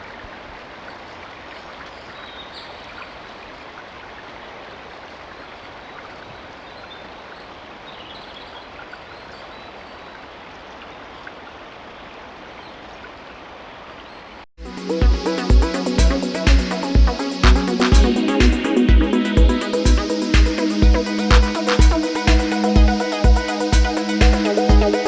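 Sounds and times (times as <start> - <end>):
river running: 0.0 - 25.0.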